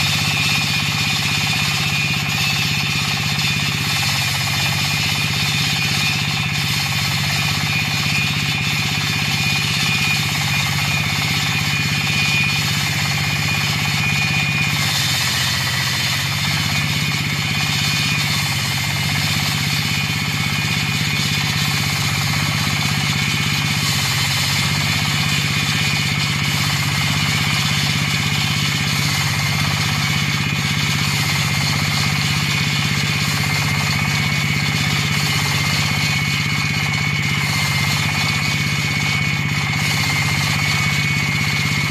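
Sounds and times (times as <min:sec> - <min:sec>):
diesel engine drone: 0:00.0 - 0:41.9
saw blade grinding concrete: 0:00.0 - 0:41.9.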